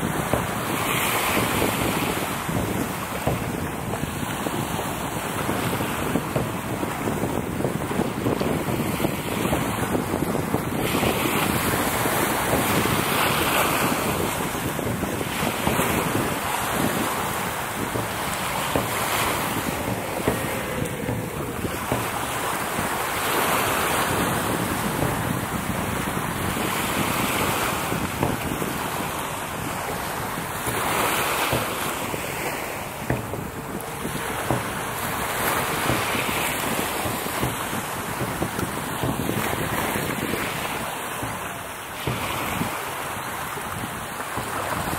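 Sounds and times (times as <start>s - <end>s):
small sea waves lapping: 0.0s - 44.9s
wind buffeting microphone: 0.0s - 44.9s.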